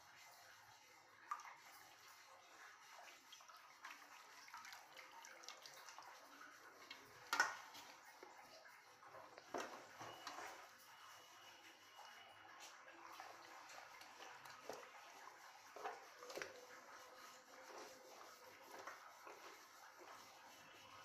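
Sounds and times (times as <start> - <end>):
water sloshing and dripping: 0.0 - 21.0.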